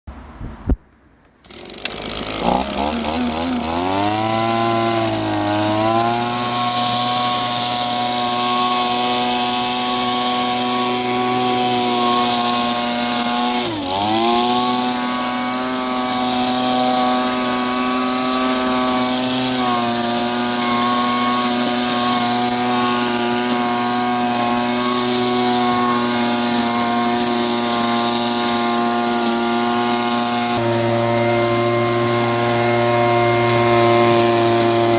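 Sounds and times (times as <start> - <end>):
leaf blower engine running: 1.4 - 34.9.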